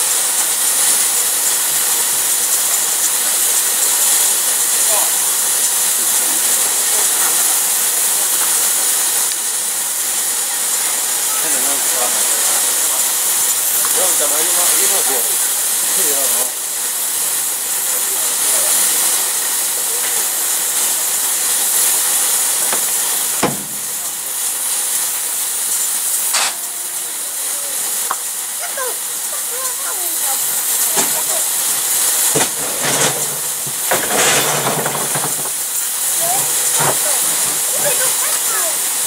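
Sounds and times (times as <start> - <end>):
steam locomotive hissing steam: 0.0 - 39.0.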